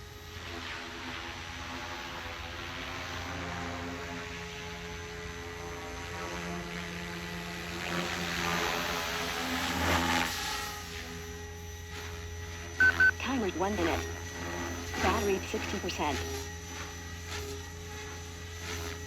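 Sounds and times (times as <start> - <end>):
model helicopter rotor hum: 0.0 - 19.0.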